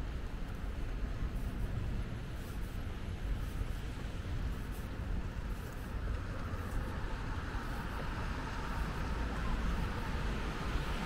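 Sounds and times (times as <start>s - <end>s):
low traffic rumble: 0.0s - 11.0s
tyres hissing on wet road: 1.2s - 11.0s.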